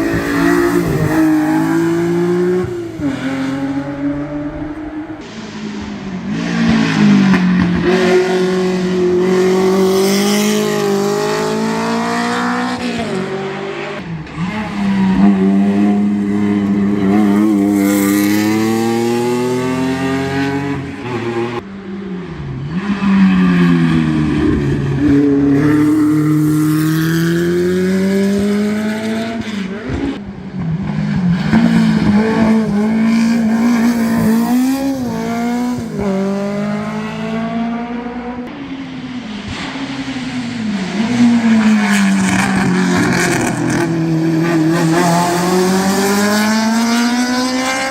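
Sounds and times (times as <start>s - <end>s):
racing car engine accelerating: 0.0s - 47.9s.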